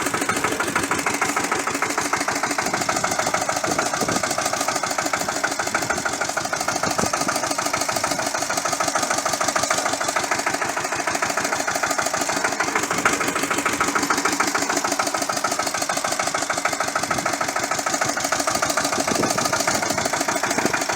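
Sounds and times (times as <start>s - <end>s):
diesel tractor engine chugging: 0.0s - 20.9s.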